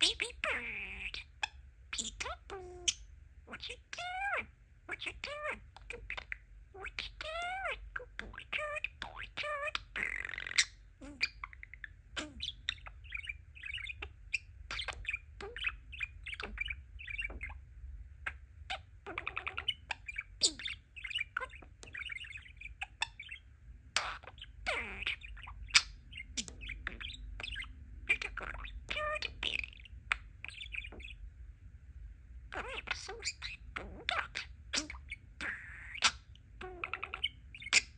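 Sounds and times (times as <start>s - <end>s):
budgerigar warbling: 0.0s - 17.6s, 18.2s - 31.2s, 32.5s - 37.9s.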